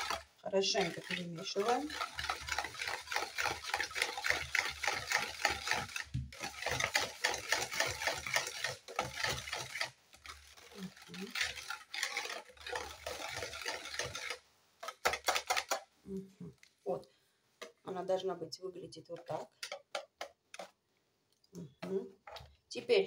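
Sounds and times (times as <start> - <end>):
whisk beating batter: 0.0 - 16.0, 19.1 - 20.9, 21.7 - 23.0.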